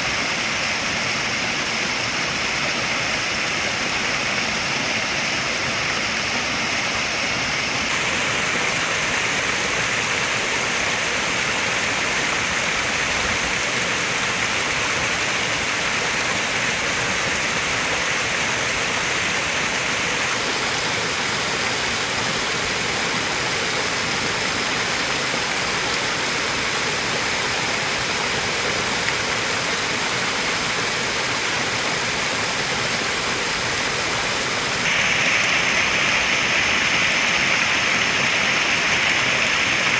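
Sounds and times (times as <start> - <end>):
waterfall splashing into pond: 0.0 - 39.9.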